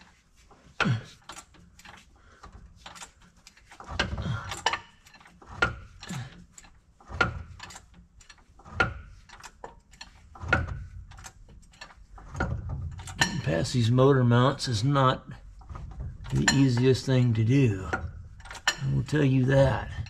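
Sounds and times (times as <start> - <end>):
metal clicks and clunks: 0.0 - 20.0.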